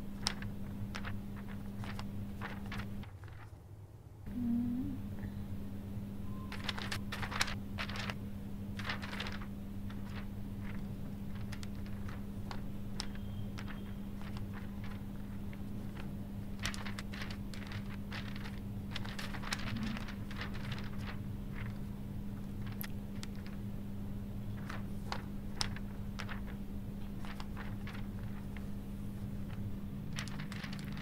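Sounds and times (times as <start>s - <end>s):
paper rustling and crinkling: 0.0s - 3.7s, 6.3s - 23.8s, 24.4s - 31.0s
steady low hum: 0.0s - 31.0s.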